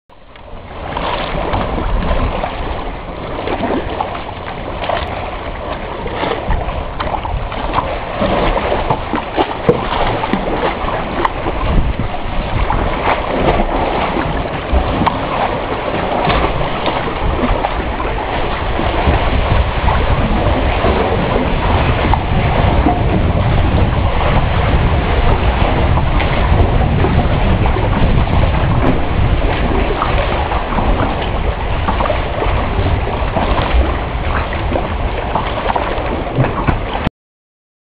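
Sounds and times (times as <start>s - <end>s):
low rumble: 0.1s - 37.1s
sea water splashing and lapping: 0.1s - 37.1s
wind buffeting microphone: 0.2s - 37.1s.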